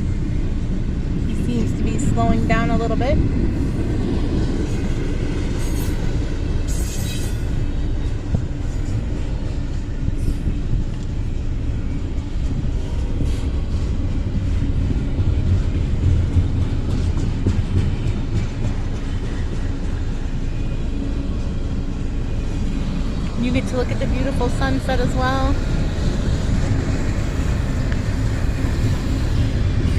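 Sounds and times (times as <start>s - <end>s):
train rumbling on rails: 0.0s - 29.9s.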